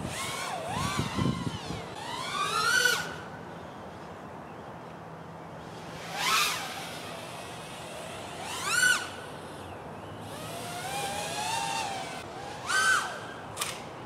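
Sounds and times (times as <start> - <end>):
quadcopter motors whining: 0.0 - 4.0, 5.6 - 13.9.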